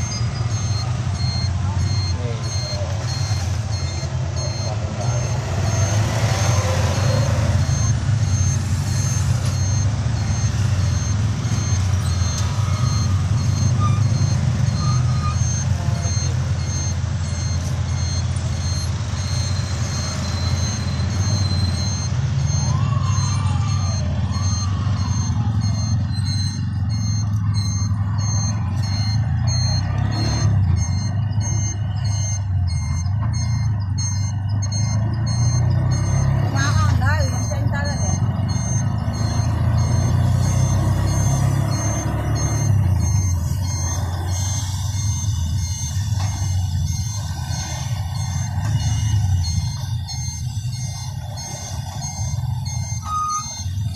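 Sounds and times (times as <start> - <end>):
high-pitched beeping: 0.0 - 53.9
vehicle engine running: 0.0 - 53.9.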